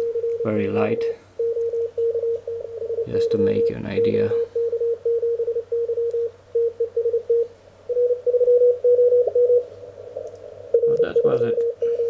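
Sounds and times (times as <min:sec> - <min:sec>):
morse code beeps: 0:00.0 - 0:09.6, 0:10.8 - 0:12.0.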